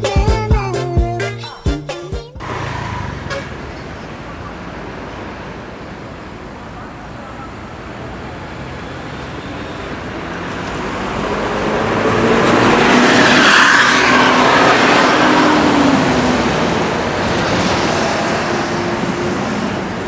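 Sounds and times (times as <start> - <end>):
bus passing by: 2.4 - 20.0.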